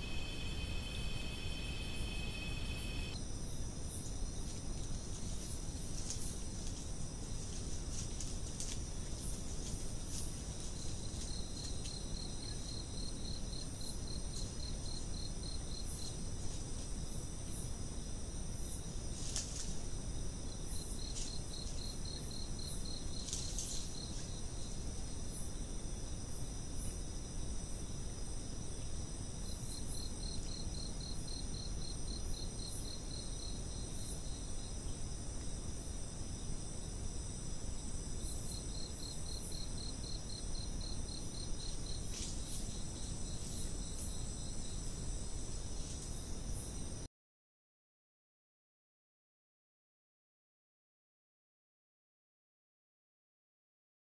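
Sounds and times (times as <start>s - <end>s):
high-pitched insect songs: 0.0s - 47.0s
rapid pulsed insect trill: 0.0s - 47.1s.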